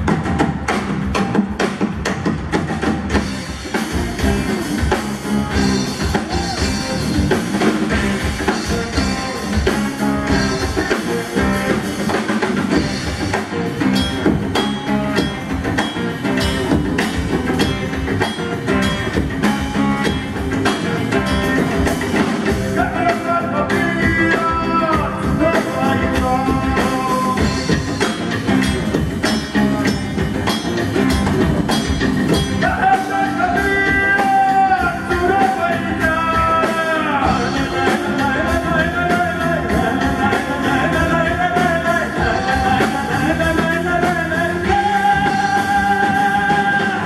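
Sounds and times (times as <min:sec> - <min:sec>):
fusion rock band playing: 0:00.0 - 0:47.0.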